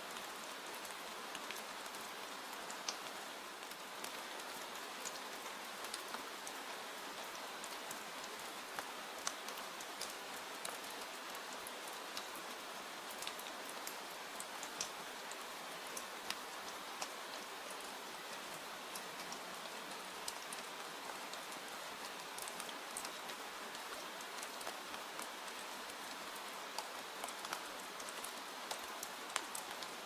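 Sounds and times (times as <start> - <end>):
rain falling: 0.1 - 30.0.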